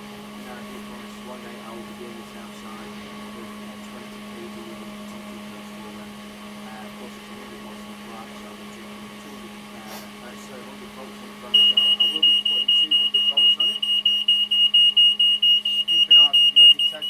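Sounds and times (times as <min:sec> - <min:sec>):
faint whir: 0:00.0 - 0:14.6
low electrical hum: 0:00.0 - 0:17.0.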